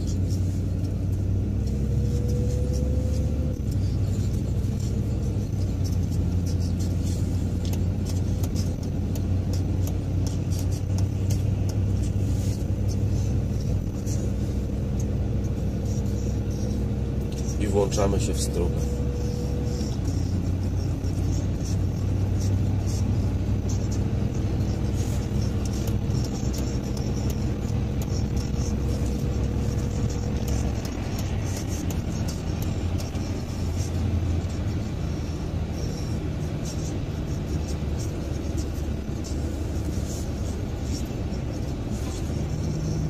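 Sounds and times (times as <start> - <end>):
car engine drone: 0.0 - 43.0.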